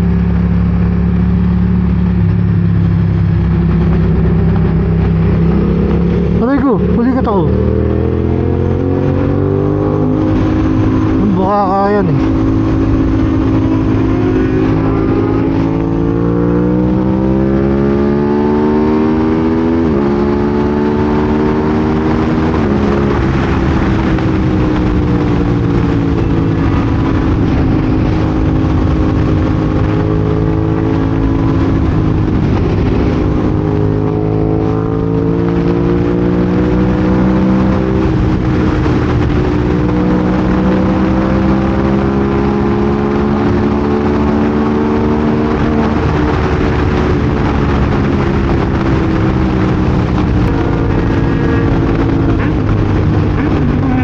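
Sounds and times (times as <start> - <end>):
motorcycle engine accelerating: 0.0 - 54.0
wind and road noise: 0.0 - 54.0.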